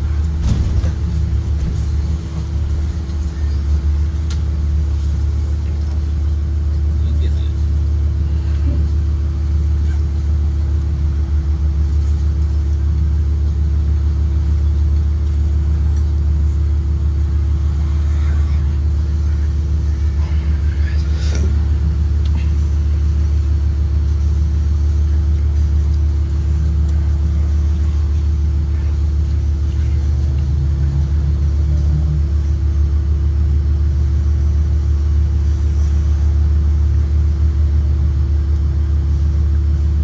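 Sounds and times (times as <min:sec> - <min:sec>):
bus engine rumble: 0:00.0 - 0:40.0
constant hum: 0:00.0 - 0:40.0.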